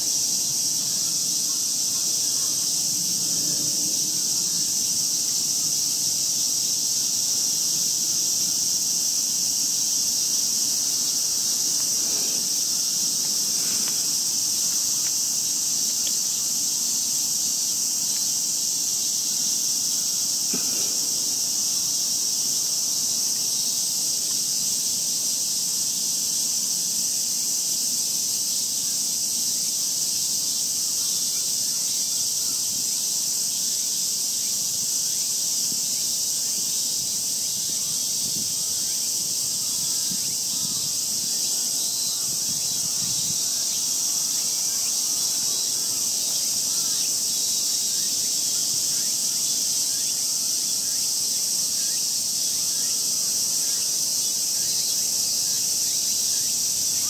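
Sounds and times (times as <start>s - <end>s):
insect chorus buzzing: 0.0s - 57.0s.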